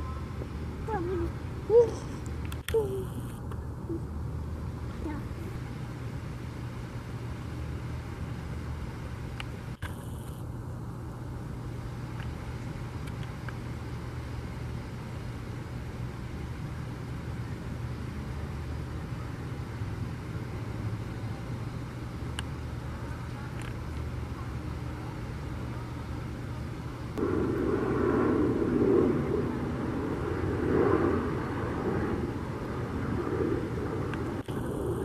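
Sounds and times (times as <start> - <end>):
distant road traffic: 0.0 - 35.0.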